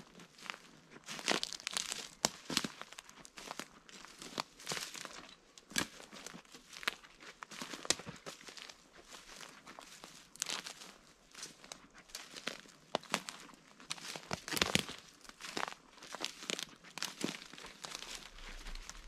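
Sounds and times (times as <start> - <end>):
footsteps crunching on dry leaf litter: 0.0 - 19.0.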